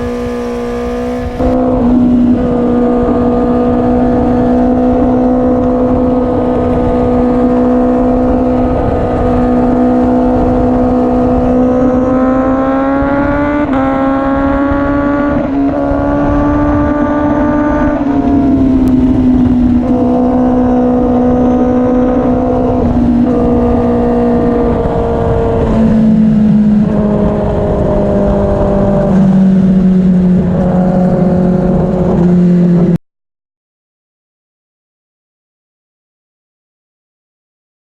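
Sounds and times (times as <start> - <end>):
motorcycle engine revving: 0.0 - 33.0
wind and road noise: 0.0 - 33.0.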